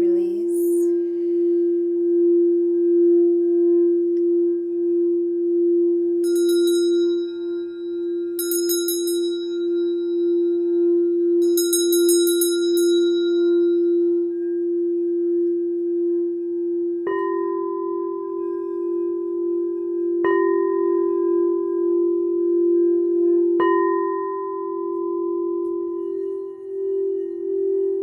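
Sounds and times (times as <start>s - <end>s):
bowl struck ringing: 0.0s - 28.0s
singing bowl sustained tone: 0.0s - 28.0s.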